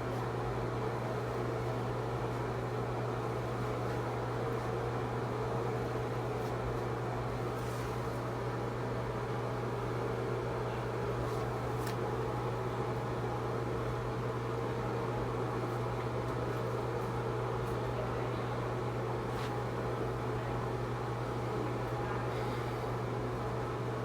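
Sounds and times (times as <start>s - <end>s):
low hum over hiss: 0.0s - 24.0s.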